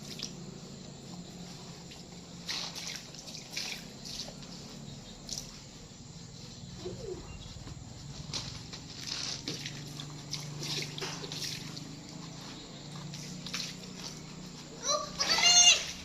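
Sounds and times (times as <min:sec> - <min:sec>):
steady low hum: 0:00.0 - 0:16.0
wet wiping and splashing: 0:00.0 - 0:16.0.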